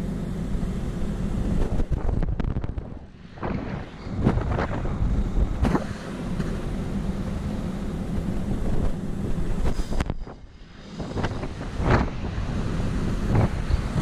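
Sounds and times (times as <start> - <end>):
sea washing along ship: 0.0 - 14.0
wind buffeting microphone: 1.4 - 14.0.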